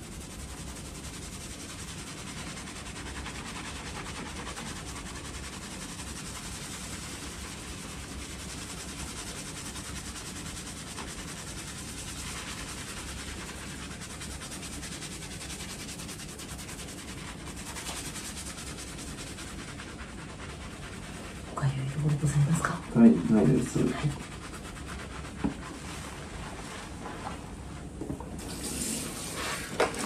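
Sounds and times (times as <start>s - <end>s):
hands scrubbing lathered hair: 0.0s - 30.0s.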